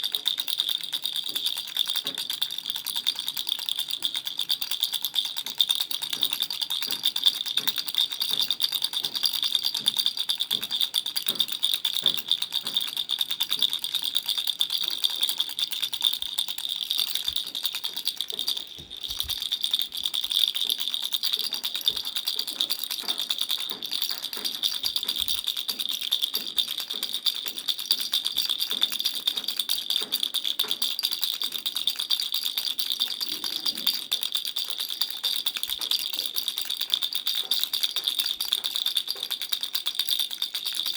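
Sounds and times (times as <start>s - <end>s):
toy rattle shaking: 0.0s - 40.9s.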